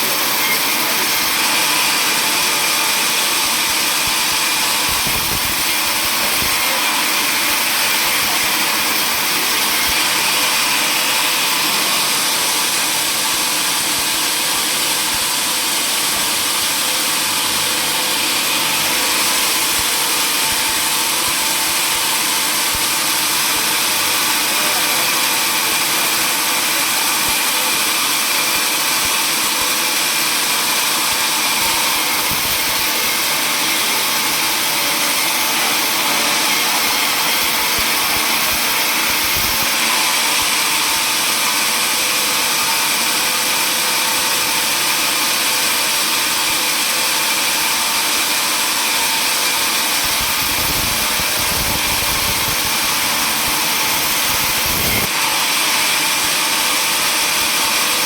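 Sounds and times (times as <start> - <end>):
power saw whining: 0.0 - 58.0.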